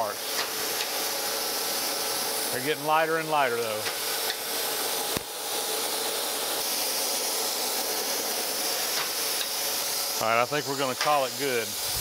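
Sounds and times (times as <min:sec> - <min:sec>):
grinder wheel hissing: 0:00.0 - 0:12.0.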